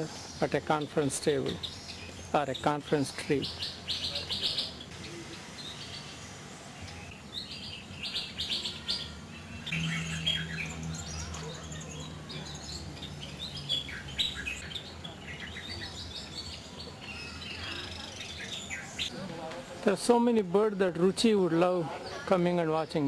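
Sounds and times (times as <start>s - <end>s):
birds chirping and calling: 0.0s - 19.2s.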